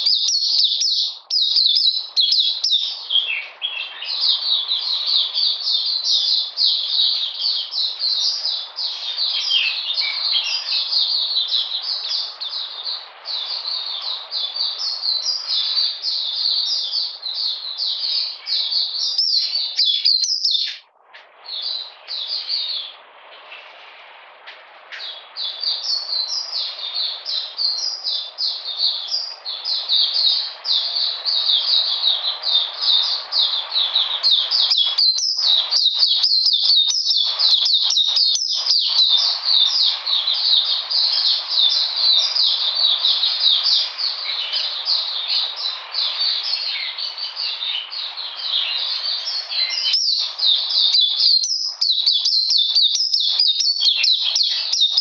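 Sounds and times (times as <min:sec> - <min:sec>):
bird twittering song: 0:00.0 - 0:55.0.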